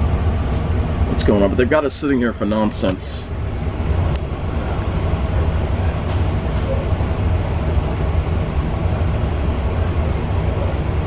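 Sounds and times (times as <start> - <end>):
train car rumble and hum: 0.0 - 11.0.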